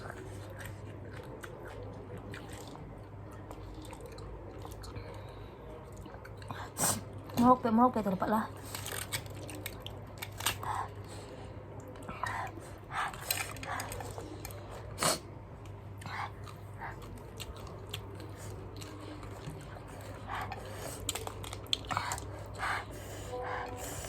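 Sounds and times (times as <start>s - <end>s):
person chewing crisp cabbage: 0.0s - 7.2s, 8.6s - 24.0s
steady low hum: 0.0s - 24.0s.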